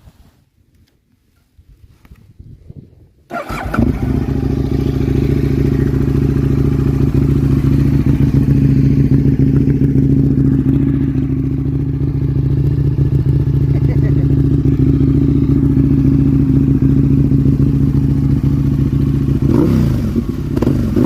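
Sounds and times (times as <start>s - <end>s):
motorcycle engine starting and idling: 3.3s - 21.0s.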